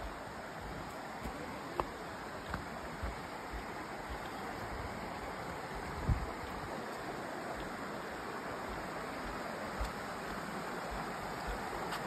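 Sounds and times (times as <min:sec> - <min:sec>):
footsteps on dirt path: 0:00.0 - 0:12.0
stream rushing: 0:00.0 - 0:12.0.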